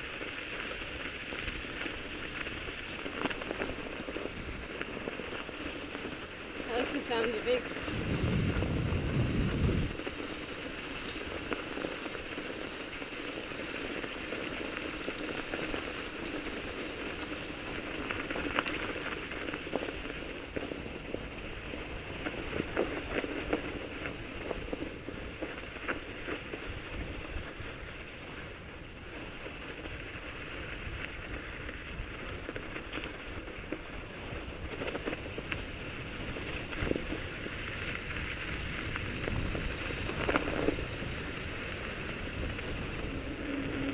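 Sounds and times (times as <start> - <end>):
bike tyres crunching on snow: 0.0 - 43.9.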